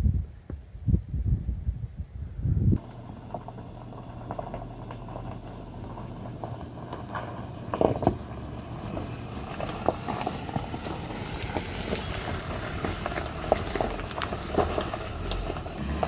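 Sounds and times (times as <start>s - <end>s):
low engine hum: 2.7s - 16.0s
stones crunching under tires: 2.8s - 16.0s.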